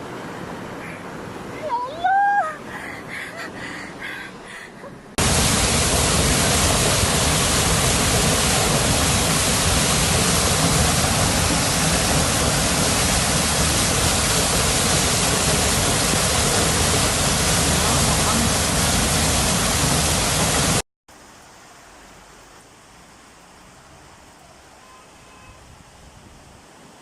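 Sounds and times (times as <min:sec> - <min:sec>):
rushing water roar: 0:00.0 - 0:27.0.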